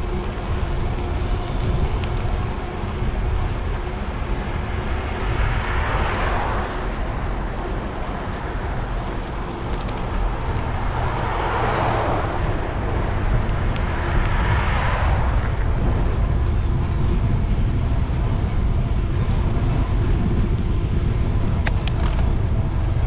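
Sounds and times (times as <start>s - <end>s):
traffic passing: 0.0s - 23.0s
wind rumbling on microphone: 0.0s - 23.0s.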